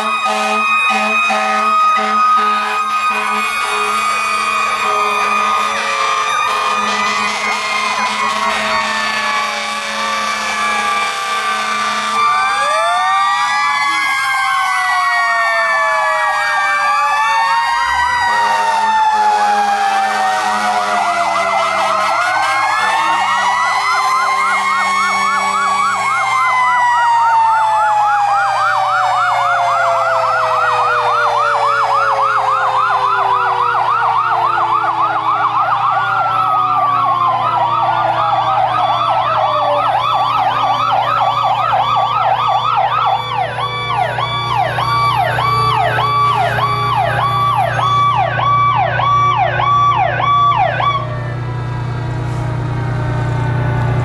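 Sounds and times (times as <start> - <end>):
electronic siren warbling: 0.0 - 54.0.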